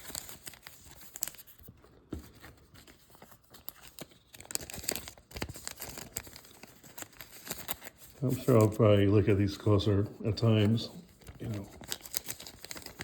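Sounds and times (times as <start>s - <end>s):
plastic sleeves crinkling: 0.0s - 13.0s.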